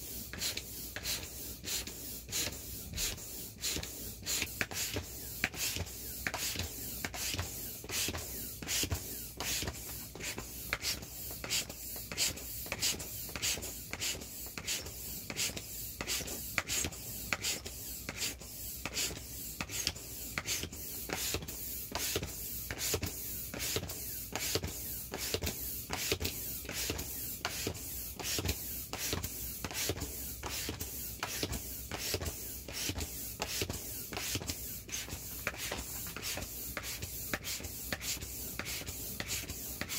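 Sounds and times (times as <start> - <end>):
air pump pulsing: 0.0 - 39.9.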